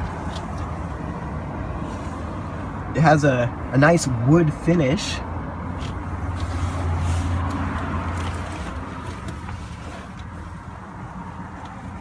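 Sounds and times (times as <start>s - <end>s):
low vehicle hum: 0.0s - 12.0s.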